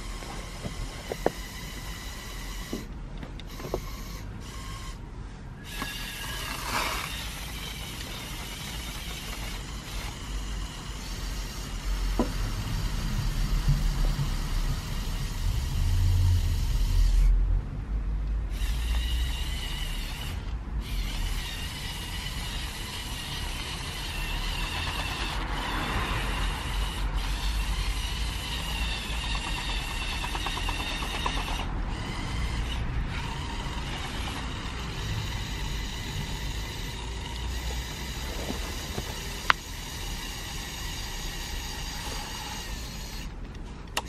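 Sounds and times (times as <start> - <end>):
toy electric motors whining: 0.0 - 17.4, 18.4 - 44.0.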